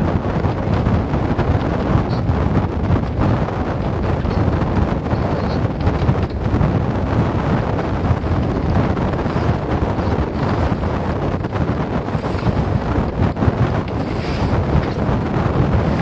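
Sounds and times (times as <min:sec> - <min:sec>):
strong wind buffeting microphone: 0:00.0 - 0:16.0
water rushing: 0:00.0 - 0:16.0.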